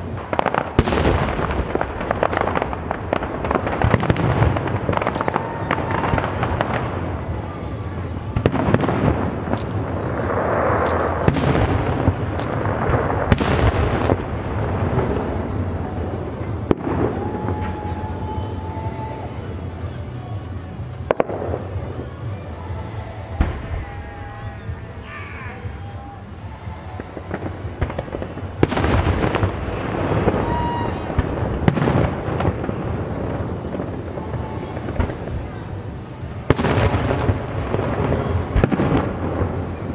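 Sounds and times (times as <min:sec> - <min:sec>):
firework bangs: 0:00.0 - 0:39.9
firework crackling: 0:00.0 - 0:39.9
firework whistle: 0:00.0 - 0:39.9.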